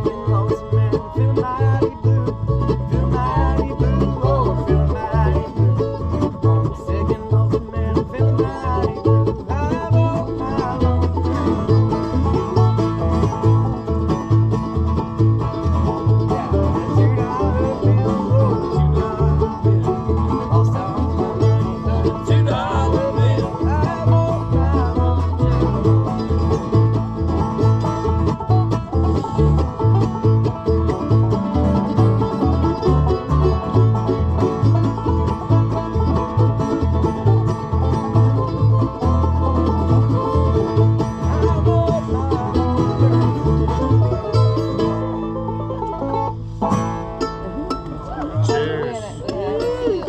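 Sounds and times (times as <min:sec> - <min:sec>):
acoustic guitar: 0:00.0 - 0:50.0
banjo picking: 0:00.0 - 0:50.0.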